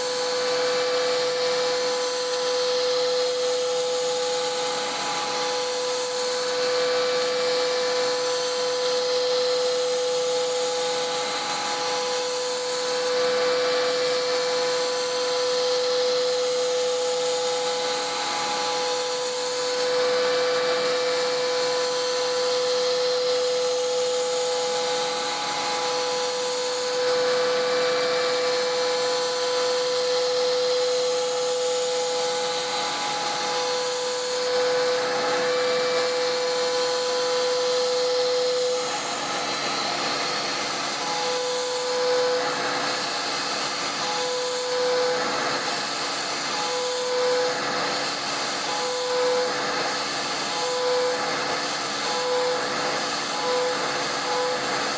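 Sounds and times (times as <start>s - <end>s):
router spindle milling tone: 0.0s - 54.9s.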